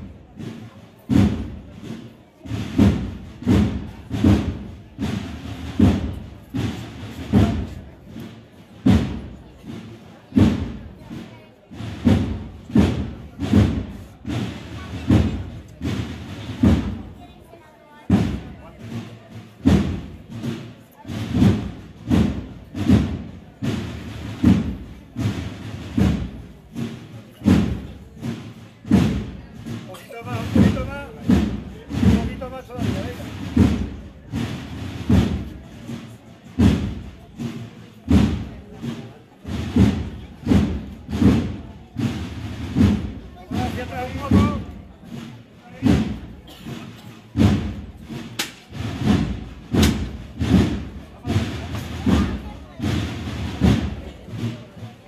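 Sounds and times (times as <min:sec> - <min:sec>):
drum beating slow march: 0:00.0 - 0:55.0.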